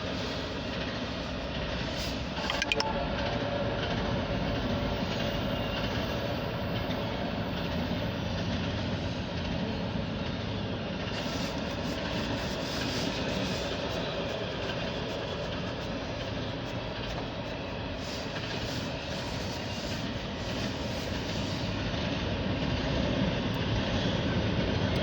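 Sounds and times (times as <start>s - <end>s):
freight train passing: 0.0s - 25.0s
train wheels rolling on rails: 0.0s - 25.0s.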